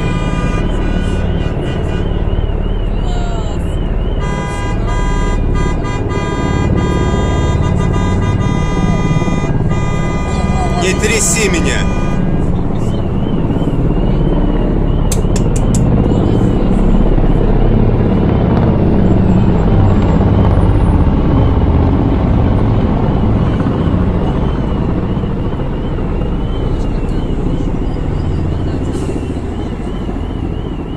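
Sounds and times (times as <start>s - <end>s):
helicopter rotor rumble: 0.0s - 30.9s.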